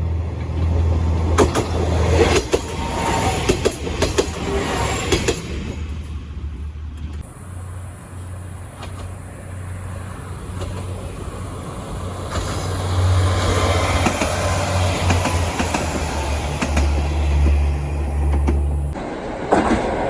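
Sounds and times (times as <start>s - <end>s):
train rumble: 0.0s - 20.0s
train wheels clicking over rail joints: 0.4s - 7.3s, 8.2s - 20.0s.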